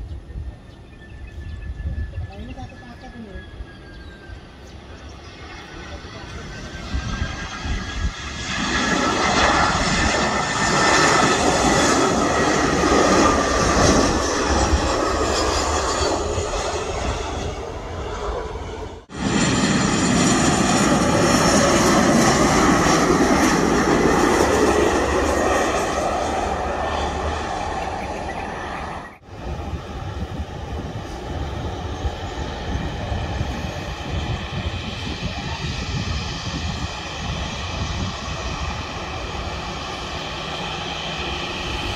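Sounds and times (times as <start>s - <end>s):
aircraft engines passing: 0.0s - 41.9s.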